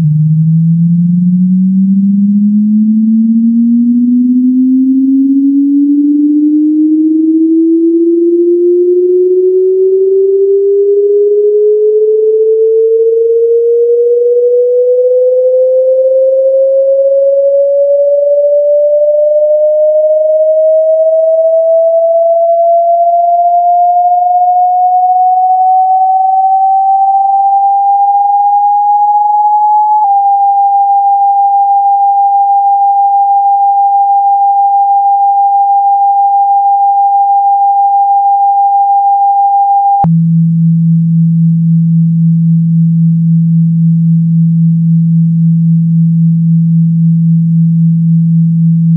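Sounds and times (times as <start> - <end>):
steady high tone: 0.0 - 40.1
sine tone gliding upward: 0.0 - 48.9.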